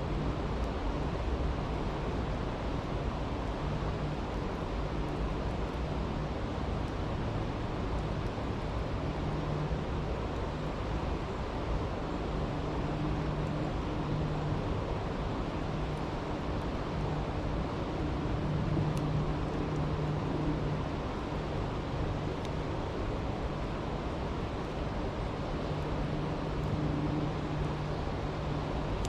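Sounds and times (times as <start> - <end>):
faint campfire crackles: 0.0 - 29.0.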